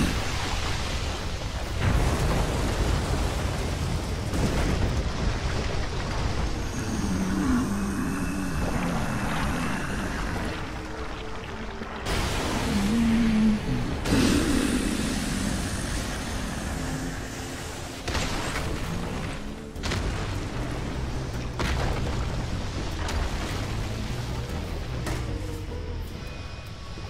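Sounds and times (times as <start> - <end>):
heavy booms and rumbling blasts: 0.0 - 11.1, 12.0 - 25.0
dramatic orchestral music: 5.2 - 27.0.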